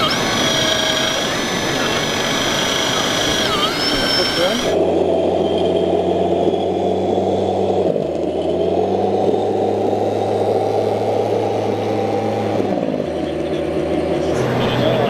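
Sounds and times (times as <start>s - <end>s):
simulated diesel engine hum: 0.0s - 15.0s.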